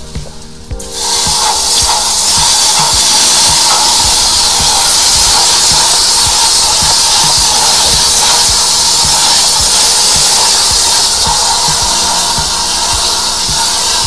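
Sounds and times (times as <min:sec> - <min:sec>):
high-pressure water jet hissing: 0:00.0 - 0:14.0
low pulsing beat: 0:00.0 - 0:14.0.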